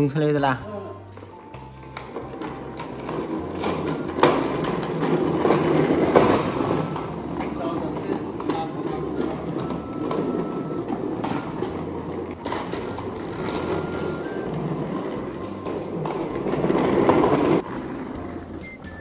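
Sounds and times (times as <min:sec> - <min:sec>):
plastic wheels rolling on concrete: 0:00.0 - 0:19.0.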